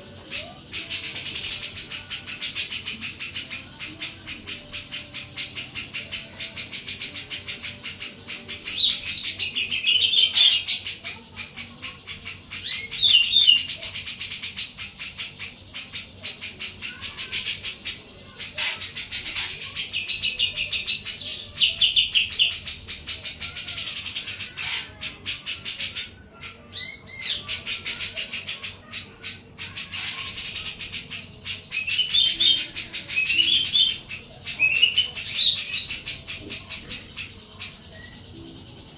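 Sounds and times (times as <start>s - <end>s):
songbird singing trilled phrases: 0.0s - 38.9s.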